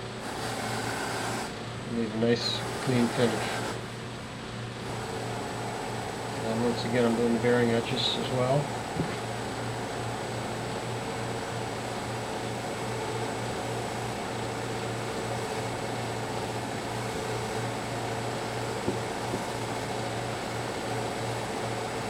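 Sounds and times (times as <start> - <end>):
buffing machine humming: 0.0 - 1.6, 2.3 - 4.0, 4.8 - 22.0.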